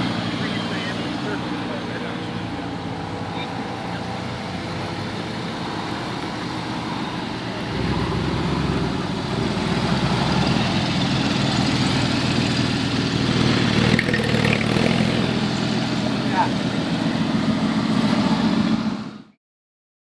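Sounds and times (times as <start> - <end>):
car engine running: 0.0 - 19.3.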